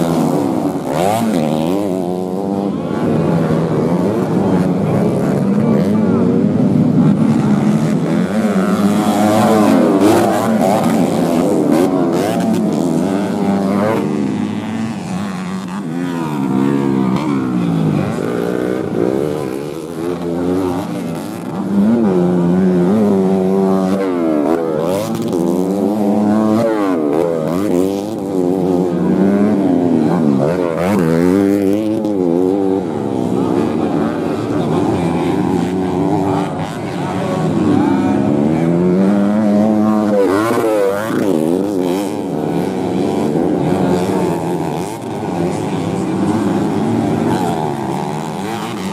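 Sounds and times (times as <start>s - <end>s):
racing motorcycle engines revving: 0.0s - 48.9s.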